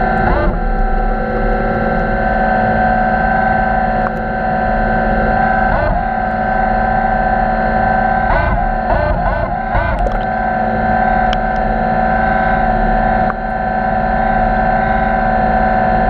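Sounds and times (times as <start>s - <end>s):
electric thruster motor hum: 0.0s - 16.0s.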